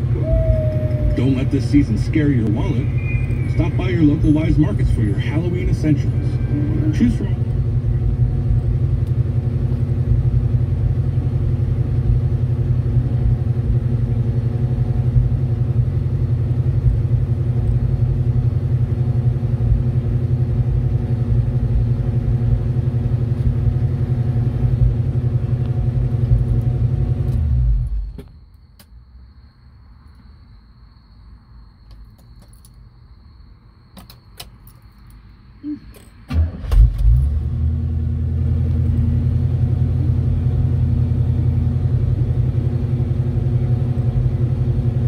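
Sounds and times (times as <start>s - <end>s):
car engine idling: 0.0s - 28.2s, 35.8s - 45.0s.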